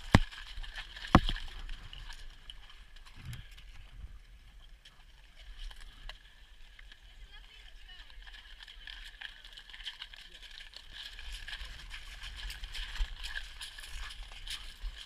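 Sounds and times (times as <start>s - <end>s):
hooves on wet gravel: 0.0s - 3.7s, 4.9s - 15.0s.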